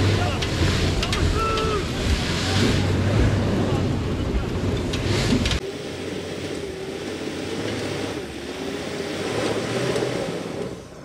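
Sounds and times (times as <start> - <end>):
off-road vehicle engine under load: 0.0 - 11.0.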